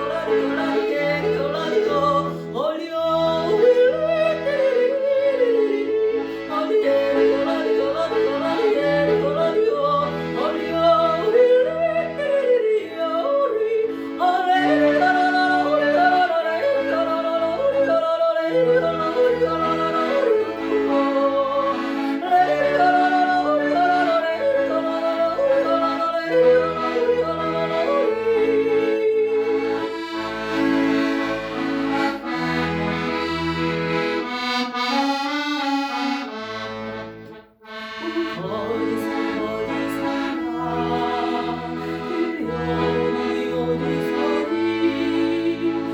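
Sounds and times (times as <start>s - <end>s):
accordion accompaniment: 0.0s - 45.9s.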